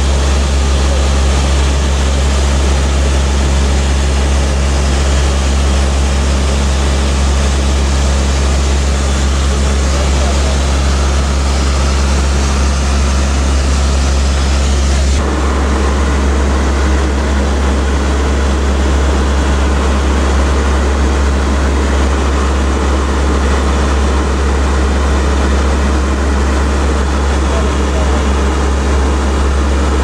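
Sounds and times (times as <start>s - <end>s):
turboprop engines droning in cabin: 0.0s - 30.0s.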